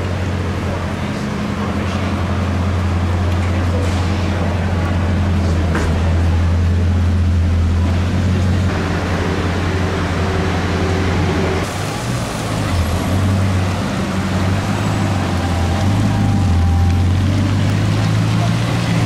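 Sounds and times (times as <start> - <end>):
car engines in slow traffic: 0.0 - 19.0.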